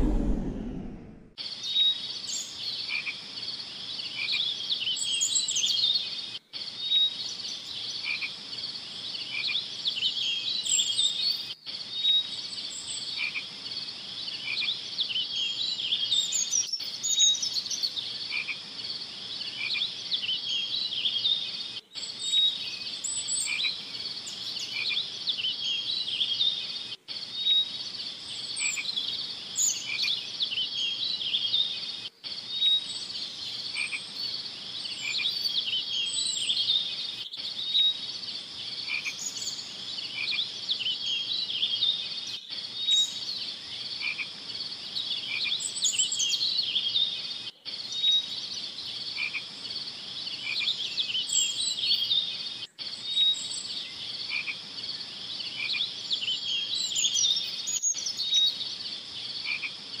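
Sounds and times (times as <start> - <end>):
frogs chirping in chorus: 2.8 - 4.6, 7.9 - 10.4, 11.8 - 16.5, 18.0 - 60.0.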